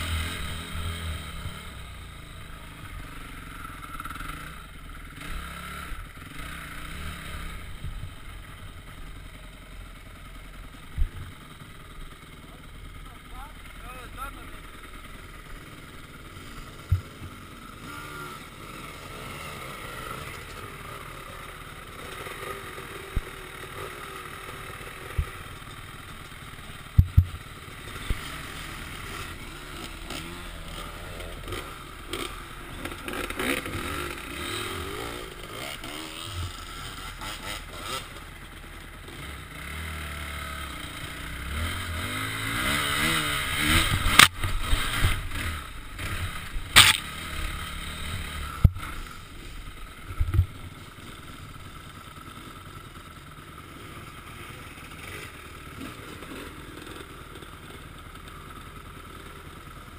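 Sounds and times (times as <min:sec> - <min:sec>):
dirt bike engine revving: 0:00.0 - 0:59.6.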